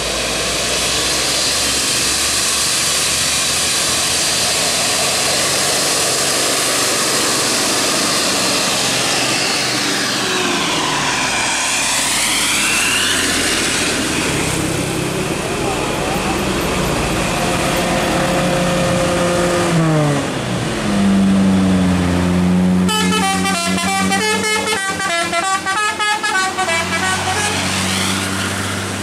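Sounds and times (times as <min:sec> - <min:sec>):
bus diesel engine passing: 0:00.0 - 0:29.0
traffic passing close by: 0:00.0 - 0:29.0.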